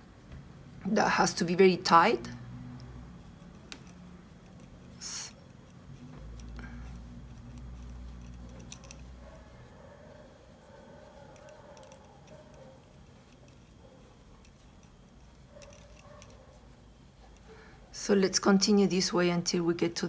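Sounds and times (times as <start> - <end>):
knitting needles clicking: 1.3 - 19.2.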